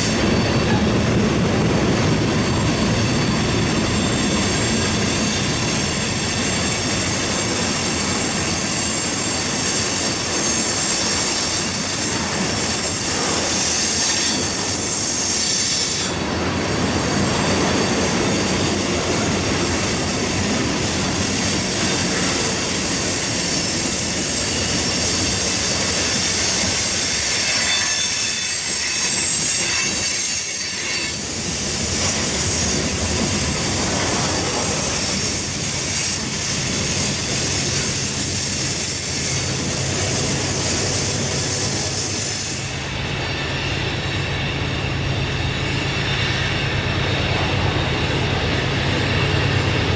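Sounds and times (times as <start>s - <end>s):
railcars rolling past: 0.0s - 49.9s
train wheels squealing on rails: 0.0s - 49.9s.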